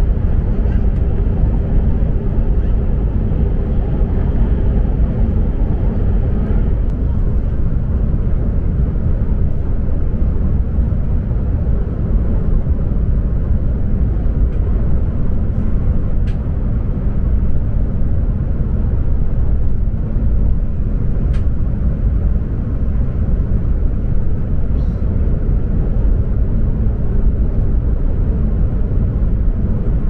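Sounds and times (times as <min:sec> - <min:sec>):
train rumble inside cabin: 0:00.0 - 0:30.0.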